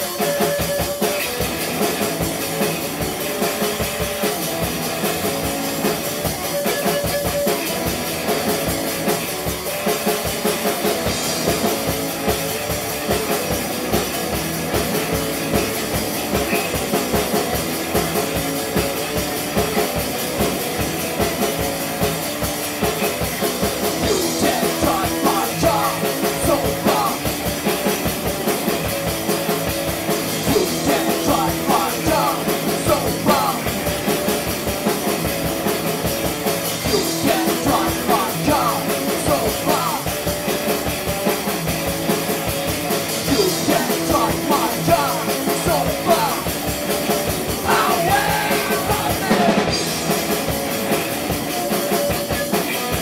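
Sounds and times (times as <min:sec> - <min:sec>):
drum kit beat: 0:00.0 - 0:53.0
electric guitars: 0:00.0 - 0:53.0
rock band playing: 0:00.0 - 0:53.0.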